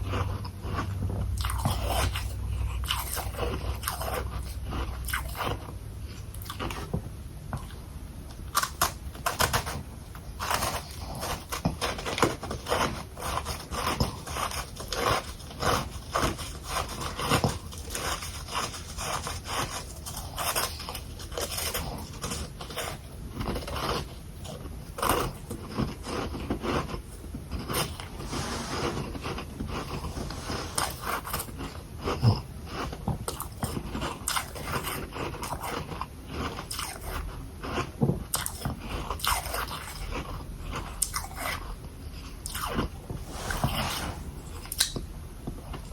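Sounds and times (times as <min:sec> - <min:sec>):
crunching and chewing frost: 0:00.0 - 0:43.8.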